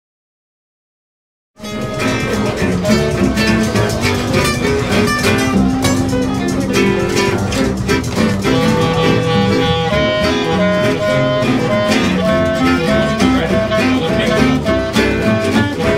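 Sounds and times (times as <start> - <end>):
strummed acoustic guitar: 1.6 - 15.9
swing jazz band playing: 1.6 - 15.9.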